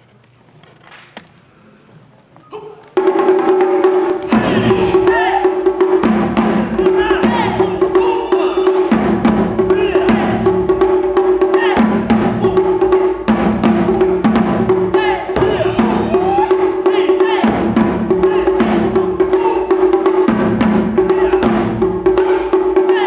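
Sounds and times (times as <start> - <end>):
drums struck with sticks: 3.0 - 23.0.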